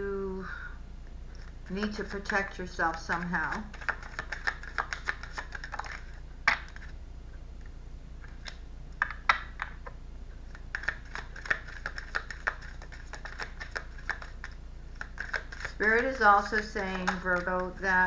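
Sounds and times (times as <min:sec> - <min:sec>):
cards shuffling clicks: 0:01.4 - 0:07.0, 0:08.2 - 0:17.9.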